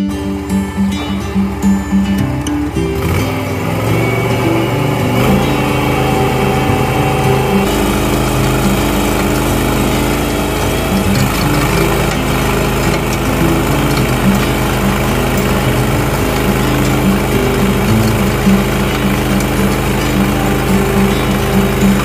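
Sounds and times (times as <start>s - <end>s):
engine running under load: 0.0s - 22.0s
rotor working soil: 0.0s - 22.0s.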